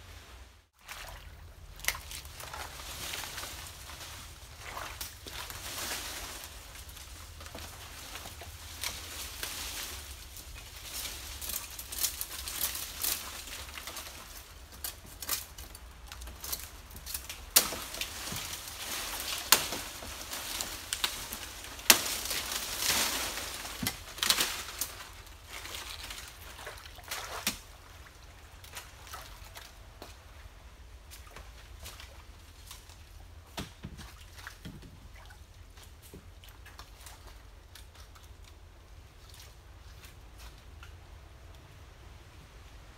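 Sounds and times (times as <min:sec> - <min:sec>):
dry leaves rustling and crackling: 0:00.0 - 0:38.6.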